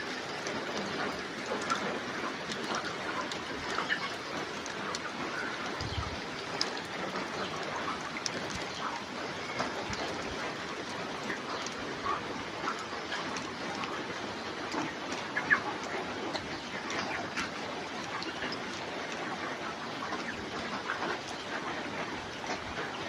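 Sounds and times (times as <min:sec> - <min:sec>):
chickens chirping and clucking: 0:00.0 - 0:23.0
constant hiss: 0:00.0 - 0:23.0.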